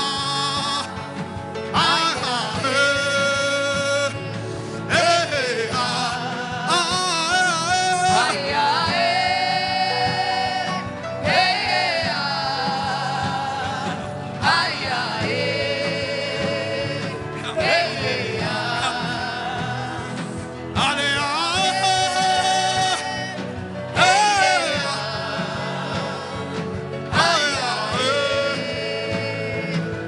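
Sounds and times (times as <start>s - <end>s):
instrumental backing music: 0.0s - 30.0s
person singing: 1.7s - 30.0s.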